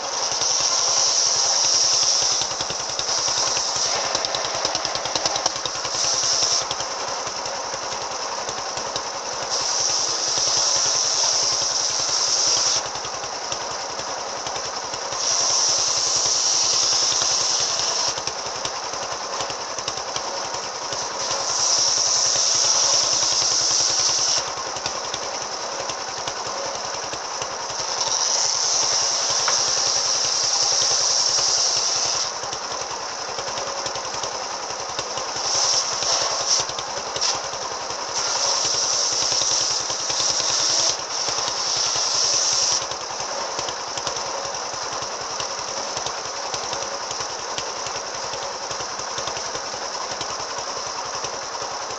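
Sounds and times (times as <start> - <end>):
circular saw cutting timber: 0.0 - 51.9
saw engine running: 0.0 - 51.9.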